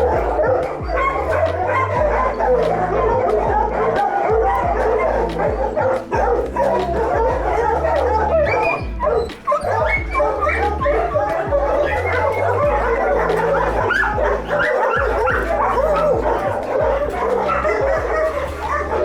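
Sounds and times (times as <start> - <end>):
many dogs barking and yipping: 0.0 - 19.0
music with low bass line: 0.0 - 19.0.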